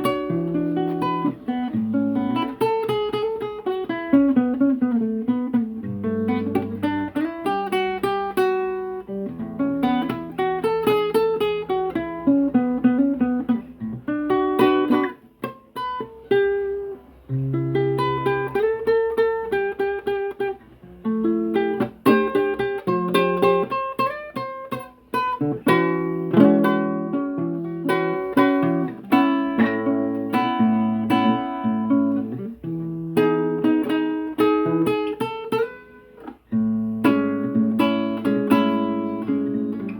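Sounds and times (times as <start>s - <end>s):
acoustic guitar picking: 0.0s - 39.9s.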